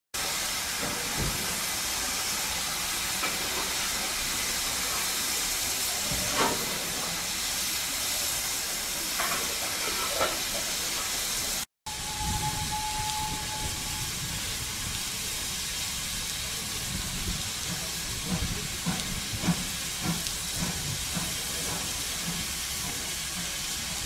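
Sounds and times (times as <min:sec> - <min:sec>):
steam hissing from locomotive: 0:00.2 - 0:24.0.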